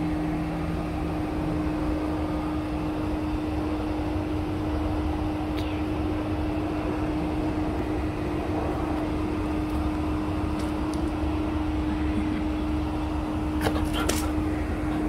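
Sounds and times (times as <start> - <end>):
low rumble: 0.0 - 13.6
steady mechanical hum: 0.0 - 15.0.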